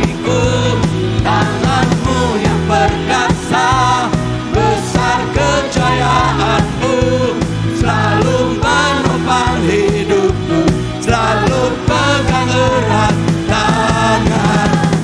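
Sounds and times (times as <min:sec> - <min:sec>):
band playing rock praise song: 0:00.0 - 0:15.0
bass: 0:00.0 - 0:15.0
bending lead melody: 0:00.0 - 0:15.0
drums: 0:00.0 - 0:15.0.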